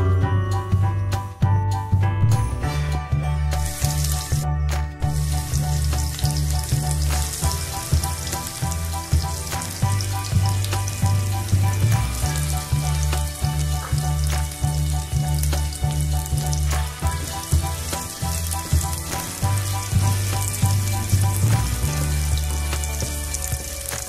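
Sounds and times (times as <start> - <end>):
background music with bass line: 0.0 - 24.0
sausages sizzling in oil: 3.6 - 24.0.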